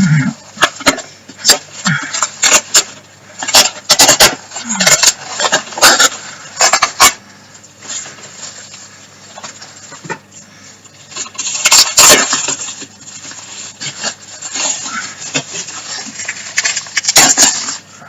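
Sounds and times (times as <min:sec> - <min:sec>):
packaging rustling: 0:00.6 - 0:17.9.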